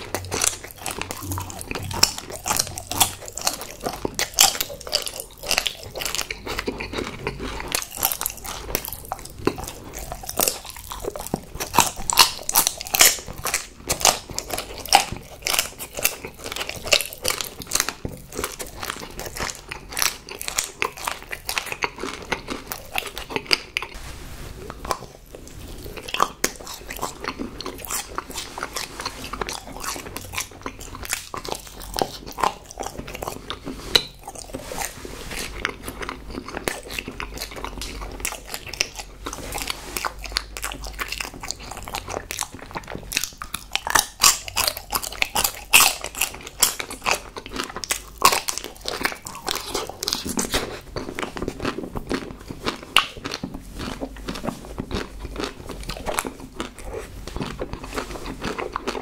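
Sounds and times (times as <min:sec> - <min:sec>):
person chewing sticky crunchy food: 0:00.0 - 0:59.0.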